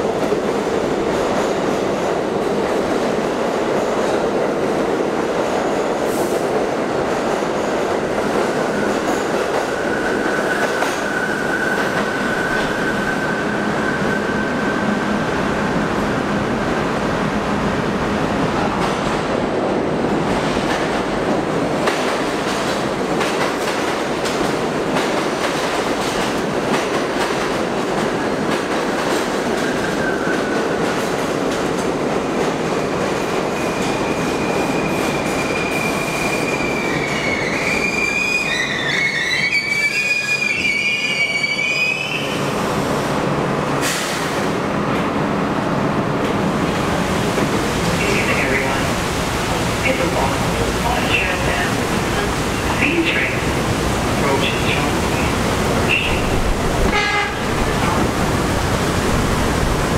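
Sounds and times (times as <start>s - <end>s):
subway train rumbling: 0.0s - 59.9s.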